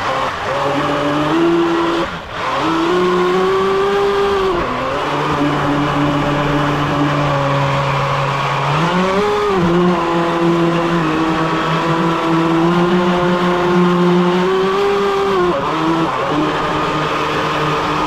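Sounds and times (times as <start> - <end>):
boat motor buzzing: 0.0 - 18.0.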